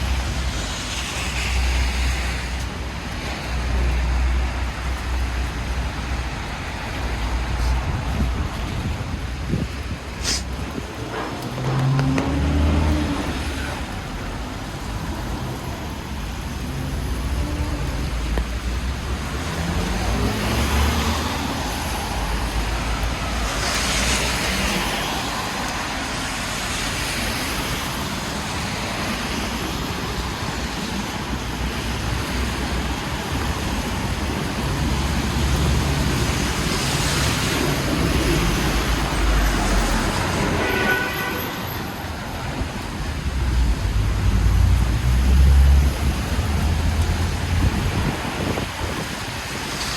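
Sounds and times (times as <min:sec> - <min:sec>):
tyre hiss on wet road: 0:00.0 - 0:08.4, 0:09.5 - 0:11.2, 0:11.8 - 0:49.9
traffic engines rumbling: 0:00.0 - 0:49.9
vehicles passing: 0:00.0 - 0:49.9.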